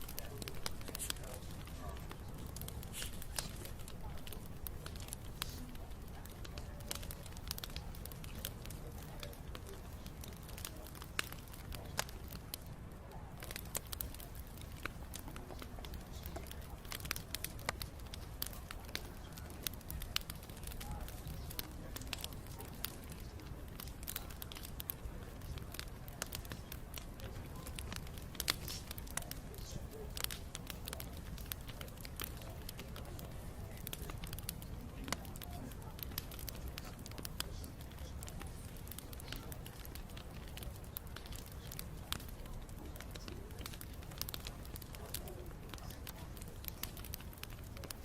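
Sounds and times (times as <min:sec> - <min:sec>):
low rumble of flame: 0:00.0 - 0:48.0
wood crackling and popping: 0:00.0 - 0:48.0.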